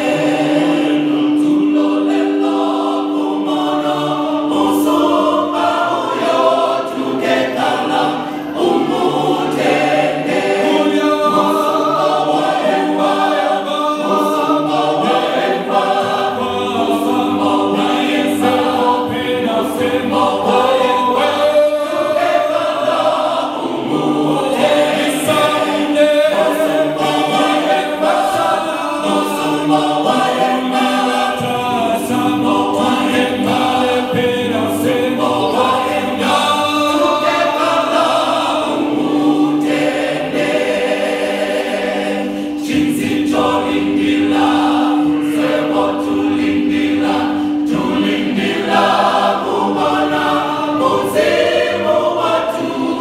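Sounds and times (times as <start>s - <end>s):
mixed choir singing gospel: 0.0s - 53.0s.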